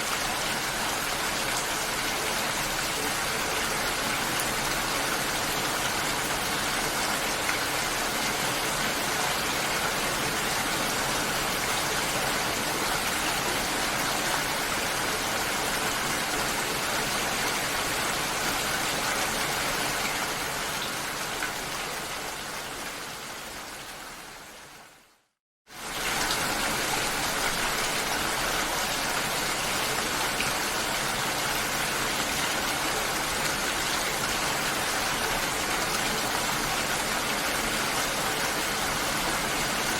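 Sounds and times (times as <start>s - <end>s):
rain-like water hiss: 0.0s - 39.9s.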